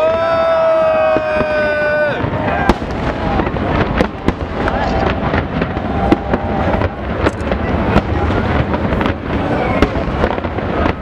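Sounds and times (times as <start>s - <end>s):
fireworks crackling: 0.0s - 11.0s
fireworks rumble: 0.0s - 11.0s
sharp fireworks bangs: 0.0s - 11.0s.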